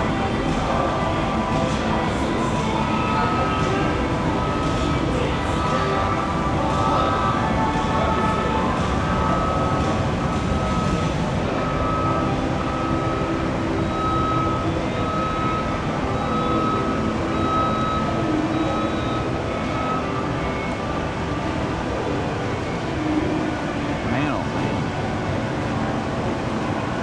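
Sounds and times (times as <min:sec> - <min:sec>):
street traffic: 0:00.0 - 0:27.0.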